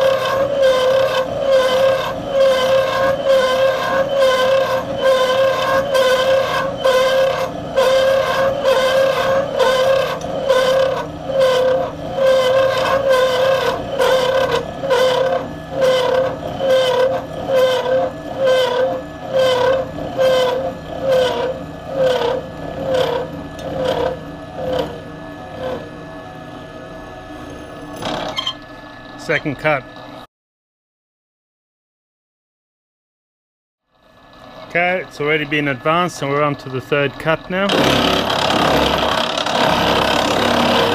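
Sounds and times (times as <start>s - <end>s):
milling machine cutting metal: 0.0s - 30.2s, 34.0s - 40.9s.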